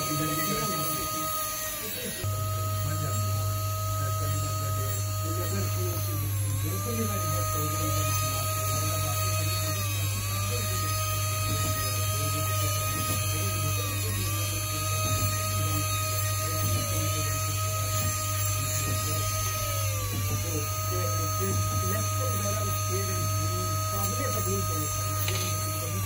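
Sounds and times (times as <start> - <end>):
micromotor handpiece whine: 0.0 - 26.0.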